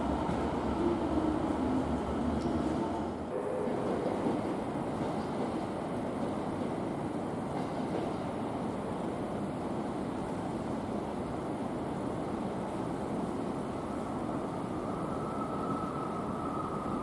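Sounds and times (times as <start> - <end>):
train rumbling slowly: 0.0 - 17.0.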